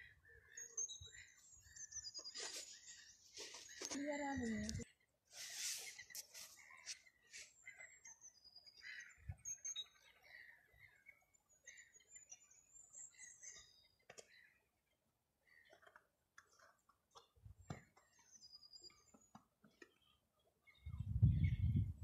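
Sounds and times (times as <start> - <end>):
faint bird chirps: 0.0 - 14.8, 15.4 - 22.0.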